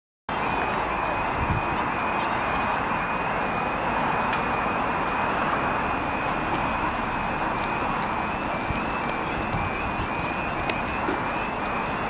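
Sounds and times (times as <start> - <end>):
level crossing warning alarm: 0.3 - 12.0
steady rushing noise: 0.3 - 12.0.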